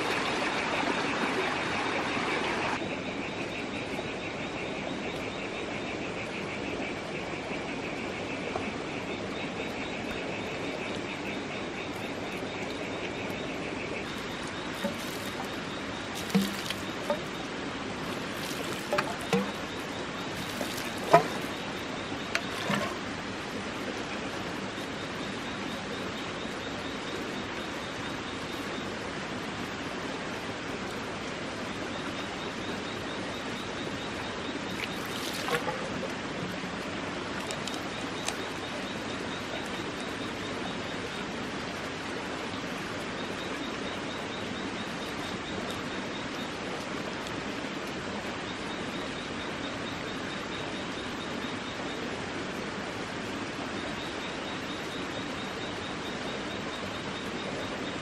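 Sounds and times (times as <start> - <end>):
rushing water: 0.0 - 5.2, 7.7 - 58.0.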